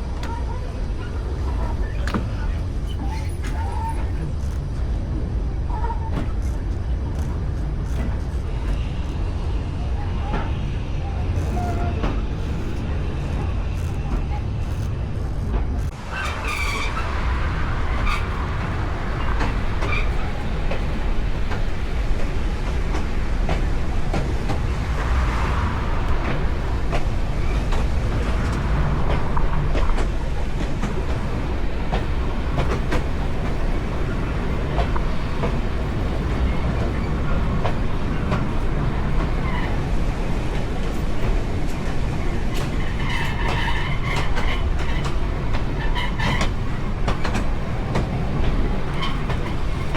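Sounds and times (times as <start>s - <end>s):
train wheels rumbling: 0.0s - 49.9s.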